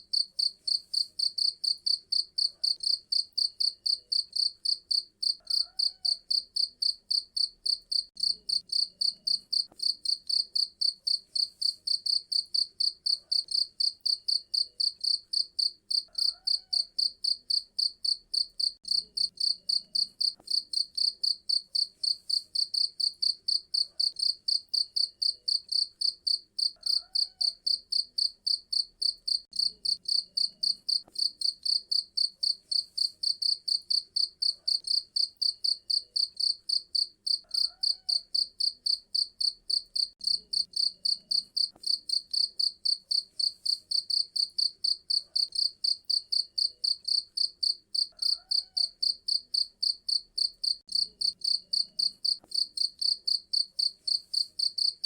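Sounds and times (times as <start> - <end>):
cricket chirping: 0.1 - 55.0.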